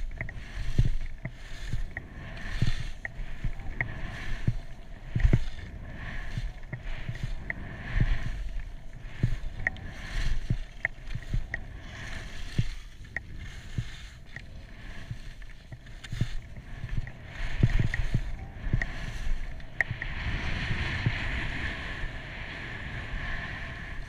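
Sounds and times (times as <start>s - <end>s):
skis scraping over snow: 0.0s - 24.0s
wind buffeting microphone: 0.0s - 24.0s.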